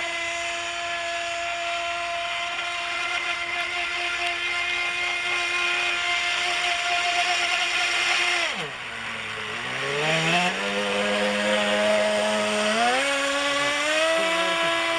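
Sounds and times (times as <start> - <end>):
model boat engine running: 0.0 - 14.9.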